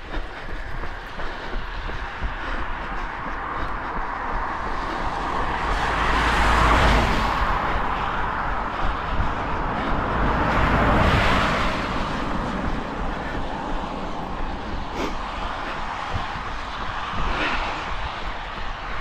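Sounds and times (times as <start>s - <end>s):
cars passing: 0.0s - 19.0s.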